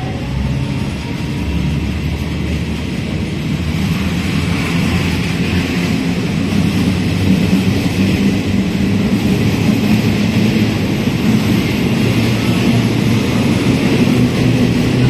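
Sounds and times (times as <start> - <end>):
train rumbling into station: 0.0 - 15.0.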